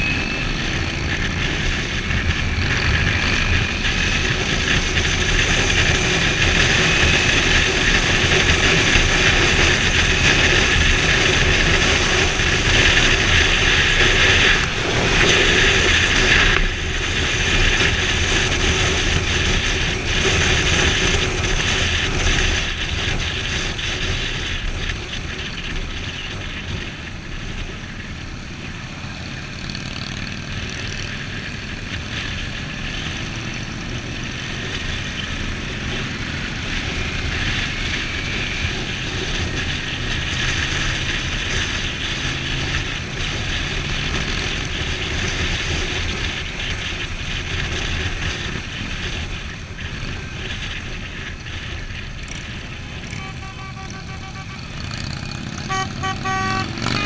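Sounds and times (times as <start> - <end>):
wind rushing over camera: 0.0 - 55.6
motorcycle engine running: 0.0 - 57.0.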